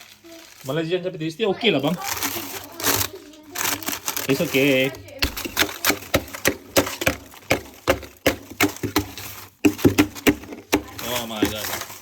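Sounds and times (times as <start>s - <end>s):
ice being chipped and hacked: 1.9s - 12.0s.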